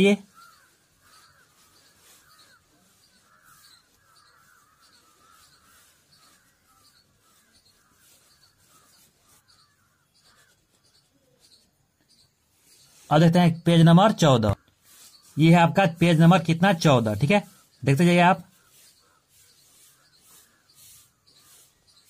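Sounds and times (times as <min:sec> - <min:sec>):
faint bird chirping: 0:00.0 - 0:22.0.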